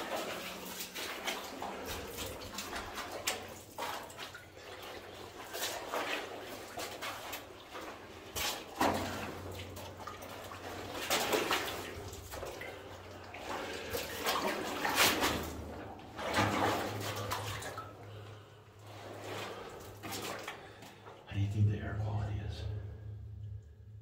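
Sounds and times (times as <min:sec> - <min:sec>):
feet splashing through shallow water: 0:00.0 - 0:21.2.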